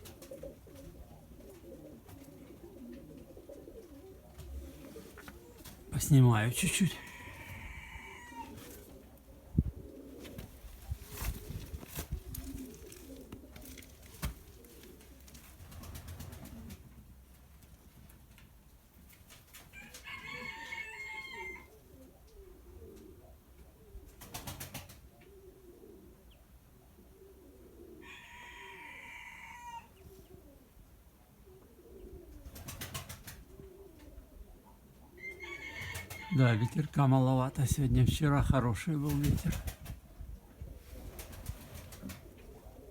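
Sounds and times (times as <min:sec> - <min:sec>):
pigeons cooing: 0:00.0 - 0:17.3, 0:19.6 - 0:42.9.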